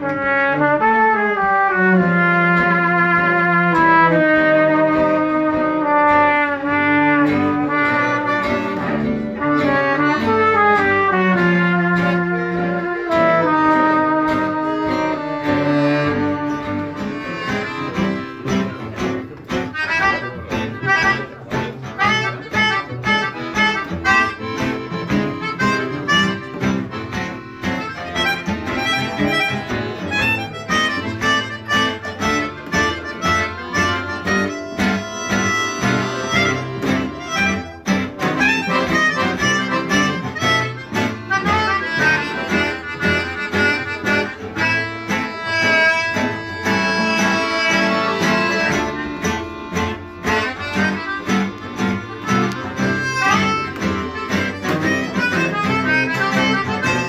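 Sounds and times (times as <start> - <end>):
trumpet melody: 0.0 - 18.5, 19.2 - 57.0
acoustic guitars strumming: 0.0 - 57.0
double bass: 0.0 - 57.0
melodica and accordion melody: 0.0 - 57.0.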